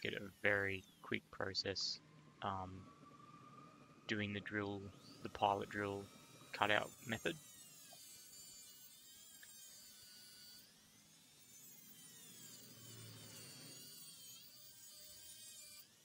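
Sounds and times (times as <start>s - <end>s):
rotary tool cutting metal: 0.0s - 1.6s, 4.4s - 16.0s.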